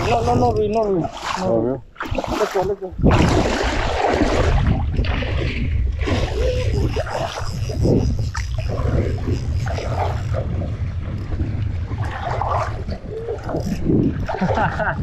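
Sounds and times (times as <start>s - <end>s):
wind buffeting microphone: 0.0s - 15.0s
outboard motor running: 1.9s - 15.0s.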